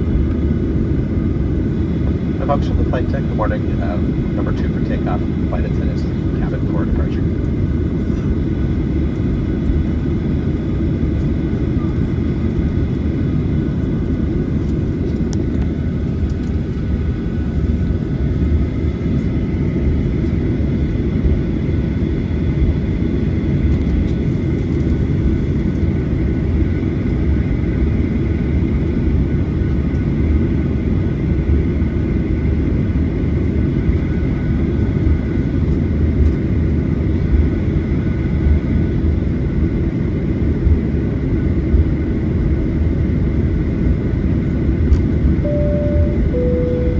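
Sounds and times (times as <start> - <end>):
airplane cabin engine rumble: 0.0 - 46.9
faint high engine whine: 0.0 - 46.9.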